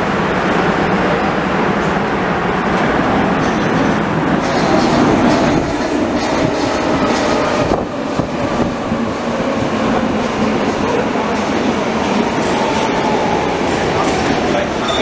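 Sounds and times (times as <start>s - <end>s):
underground train passing: 0.0s - 15.0s.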